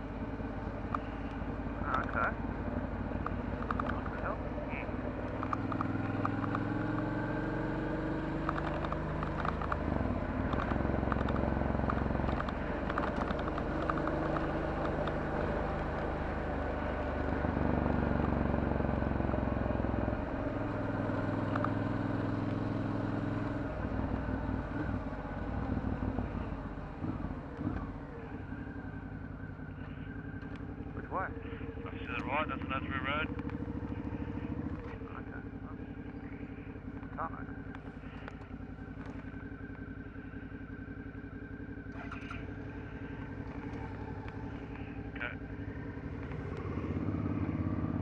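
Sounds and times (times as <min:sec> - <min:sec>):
motorcycle engine revving while riding: 0:00.0 - 0:48.0.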